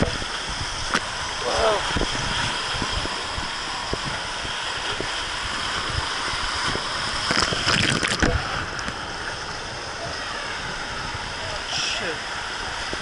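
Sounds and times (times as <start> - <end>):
water rushing down a slide: 0.0 - 13.0.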